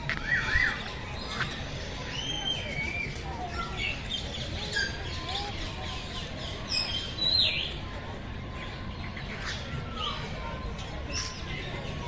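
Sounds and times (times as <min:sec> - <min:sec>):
caged birds chirping and calling: 0:00.0 - 0:12.0.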